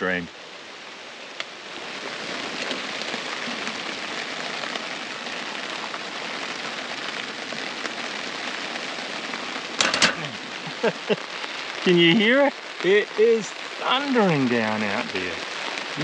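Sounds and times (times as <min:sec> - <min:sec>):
heavy rain on a fabric roof: 0:00.0 - 0:16.0.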